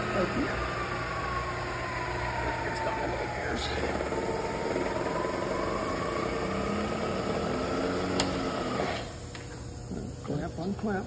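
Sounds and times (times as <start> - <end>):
milling machine hum: 0.0 - 11.0.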